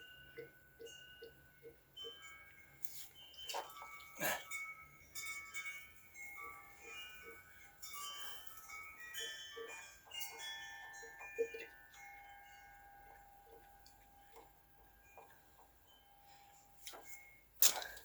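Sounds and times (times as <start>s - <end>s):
bell-like metallic tones ringing: 0.0s - 17.5s.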